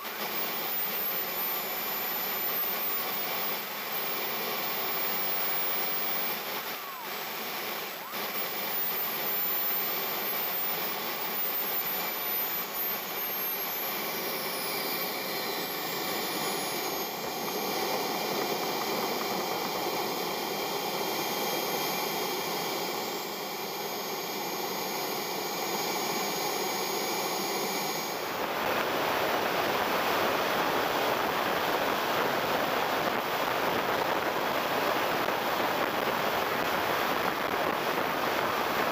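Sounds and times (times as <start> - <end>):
jet turbine whine: 0.0 - 38.9.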